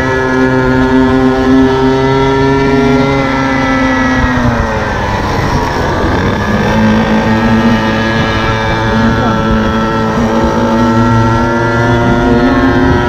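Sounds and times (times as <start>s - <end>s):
scooter two-stroke engine: 0.0s - 13.0s.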